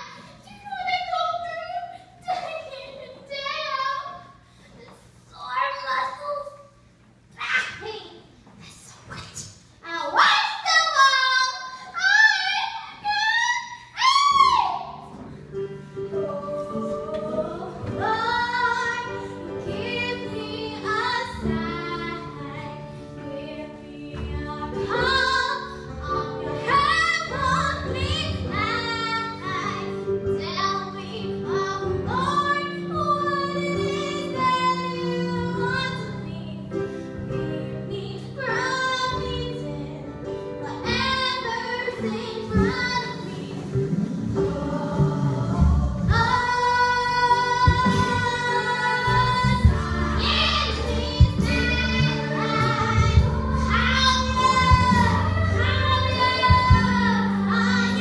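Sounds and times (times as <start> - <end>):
girl singing: 0.0 - 6.8, 9.0 - 15.2, 16.1 - 36.8, 37.4 - 43.7, 46.1 - 58.0.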